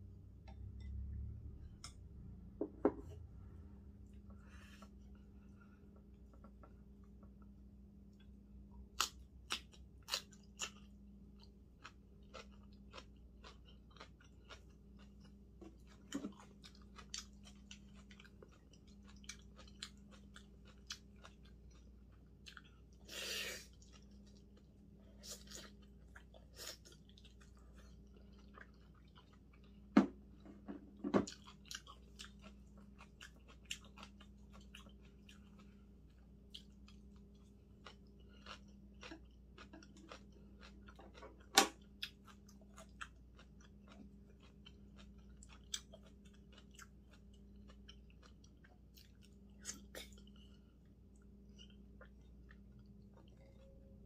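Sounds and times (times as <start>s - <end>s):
faint steady hum: 0.0s - 54.0s
chewing and crunching food: 3.9s - 54.0s.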